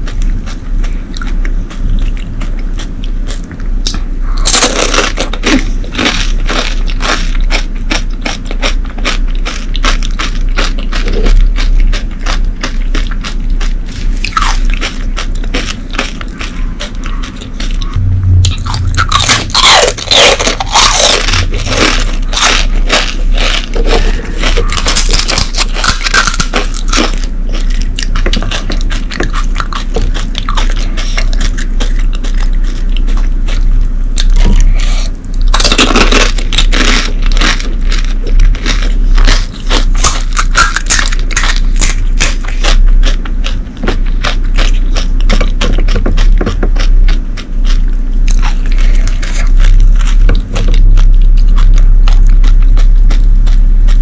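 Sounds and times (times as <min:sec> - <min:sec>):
crisp shells crunching and crackling: 0:04.4 - 0:33.6, 0:34.2 - 0:53.6.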